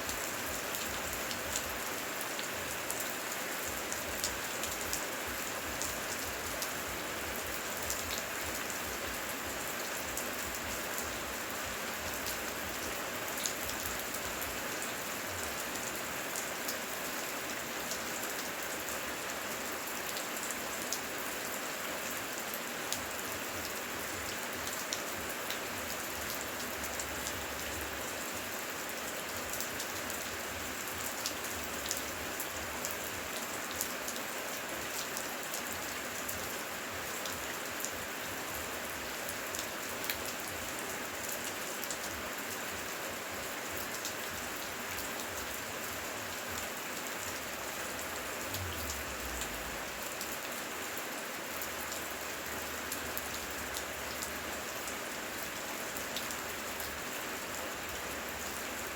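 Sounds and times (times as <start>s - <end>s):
heavy rain with ticking drops: 0.0s - 58.9s.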